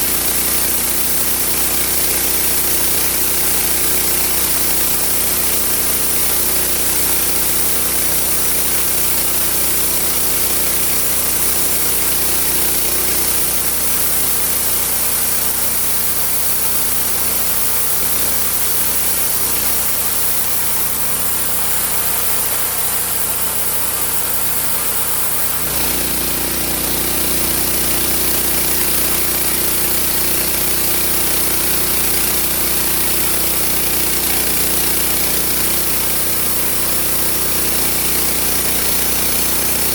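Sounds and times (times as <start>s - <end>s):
sawmill engine and saw running: 0.0s - 39.9s.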